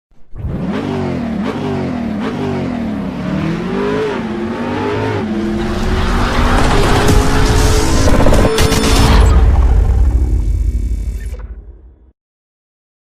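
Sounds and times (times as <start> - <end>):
car engine revving: 0.2 - 11.1.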